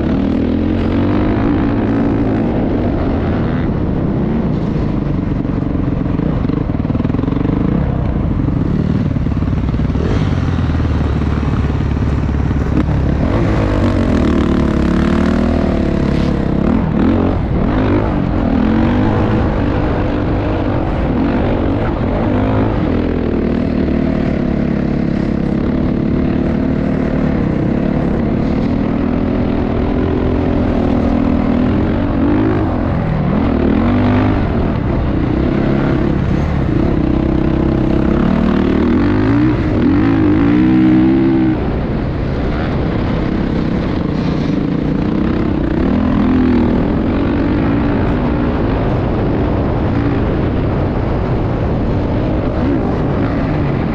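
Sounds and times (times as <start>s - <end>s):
motocross bike engine revving: 0.0s - 53.9s
steady rushing noise: 0.0s - 53.9s.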